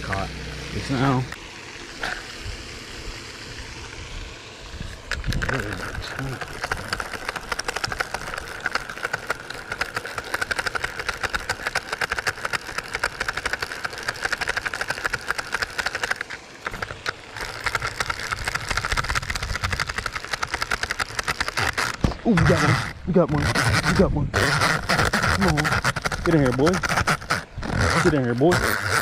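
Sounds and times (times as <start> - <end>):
fishing reel clicking: 4.9 - 29.0.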